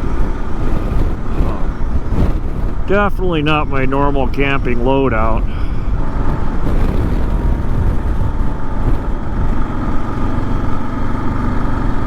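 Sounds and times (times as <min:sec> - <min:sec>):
low wind rush: 0:00.0 - 0:12.0
motorcycle engine running: 0:00.0 - 0:12.0.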